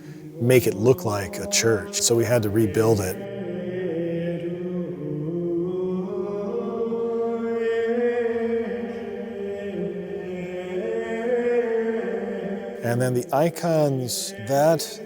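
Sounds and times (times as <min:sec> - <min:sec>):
slow vocal chant: 0:00.0 - 0:15.0.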